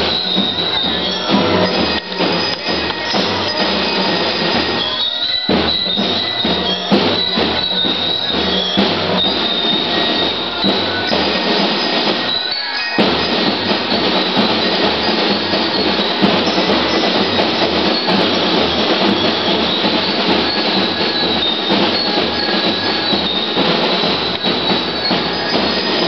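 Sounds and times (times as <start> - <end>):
bell lyres ringing: 0.0 - 26.0
drums beating: 0.0 - 26.0.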